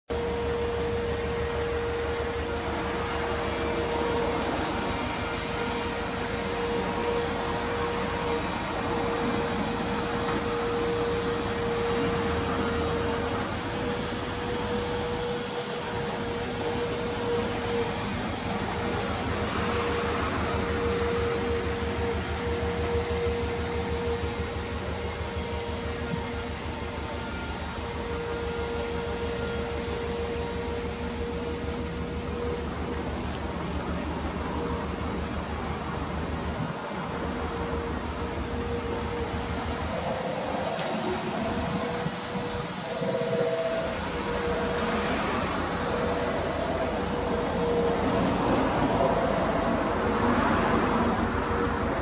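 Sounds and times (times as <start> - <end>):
car engine idling: 0.1 - 52.0.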